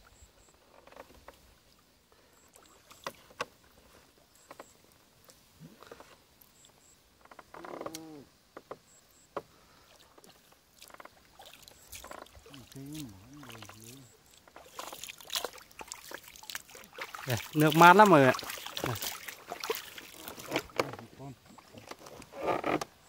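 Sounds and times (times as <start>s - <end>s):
faint paddling: 0.0s - 23.0s
water lapping: 0.9s - 6.7s, 9.5s - 23.0s.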